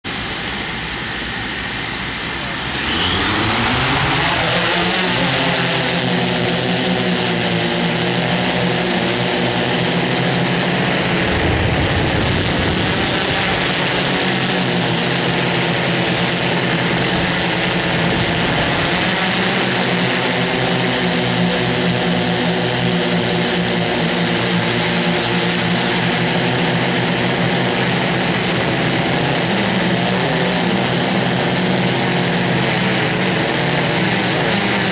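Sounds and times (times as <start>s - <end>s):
engine revving: 2.0s - 34.9s.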